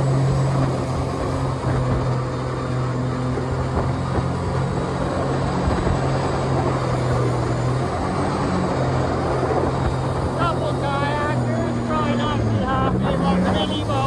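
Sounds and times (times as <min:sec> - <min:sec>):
jet boat engine running: 0:00.0 - 0:14.0.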